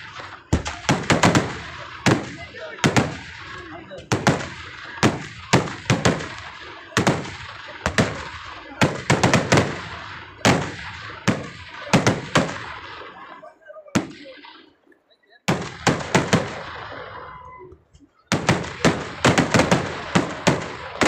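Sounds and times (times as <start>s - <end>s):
fireworks bangs echoing: 0.0s - 14.8s, 15.5s - 17.7s, 18.3s - 21.0s.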